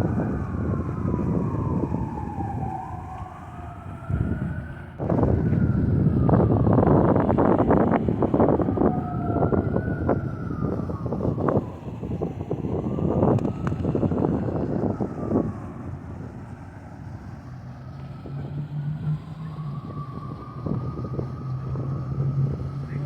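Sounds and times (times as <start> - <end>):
distant engine whine: 0.0 - 23.0
low engine hum: 0.0 - 23.0
wind buffeting microphone: 0.0 - 23.0.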